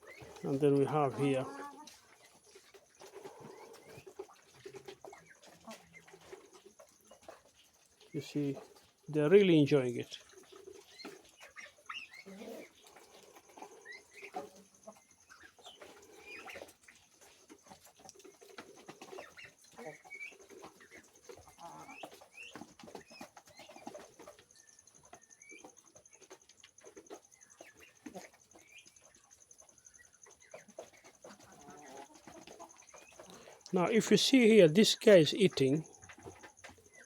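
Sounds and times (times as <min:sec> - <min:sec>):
chickens clucking and peeping: 0:00.0 - 0:37.0.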